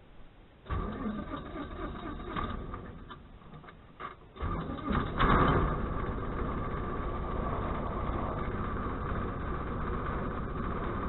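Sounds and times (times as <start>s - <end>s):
aircraft engine starting and idling: 0.6s - 11.0s.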